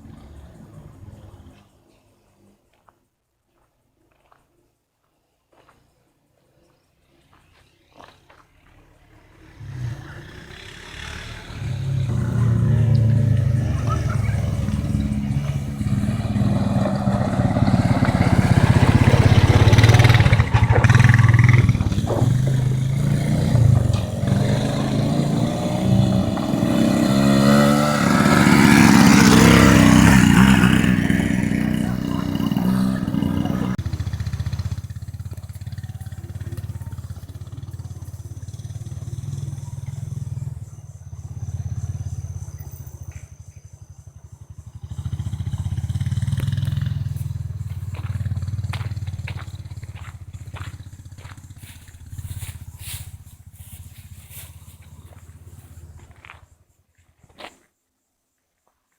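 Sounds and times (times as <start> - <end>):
atv engine running: 9.0 - 56.6.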